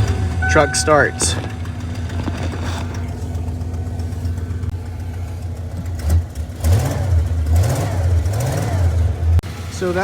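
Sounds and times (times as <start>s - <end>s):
truck engine idling: 0.0s - 7.6s, 9.0s - 10.0s.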